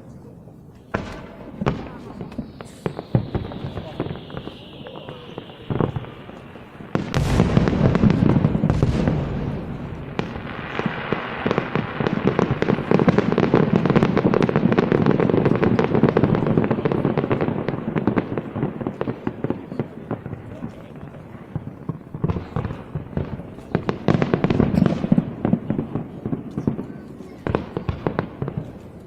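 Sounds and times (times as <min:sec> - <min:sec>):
firework crackle: 0:00.7 - 0:29.0
firework booms: 0:00.8 - 0:29.0.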